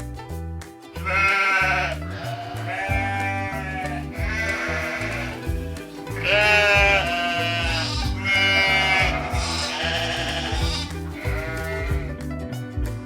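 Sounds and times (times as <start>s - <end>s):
background music with beat: 0.0s - 13.0s
goat bleating: 1.0s - 12.2s.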